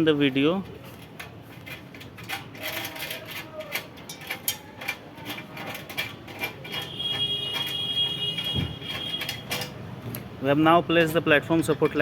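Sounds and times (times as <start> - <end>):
metal bolts clicking and rattling: 0.0 - 12.0.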